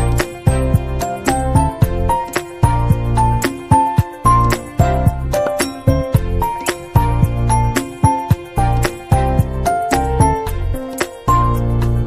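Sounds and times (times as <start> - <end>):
instrumental music with bass and beat: 0.0 - 12.0.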